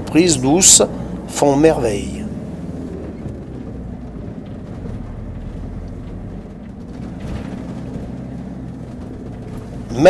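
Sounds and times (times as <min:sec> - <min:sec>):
van engine and road rumble: 0:00.0 - 0:10.0.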